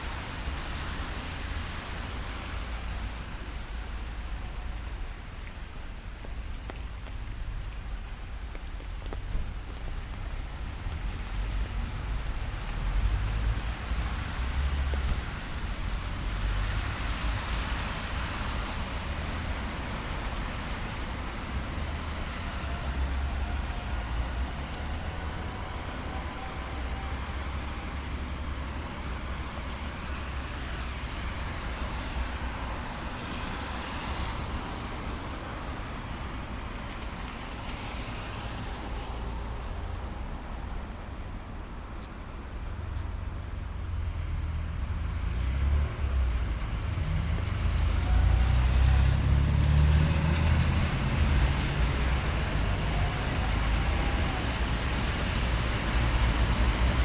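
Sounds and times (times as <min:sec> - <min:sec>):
low rumble of engines: 0:00.0 - 0:57.0
tyres hissing on wet road: 0:00.0 - 0:57.0.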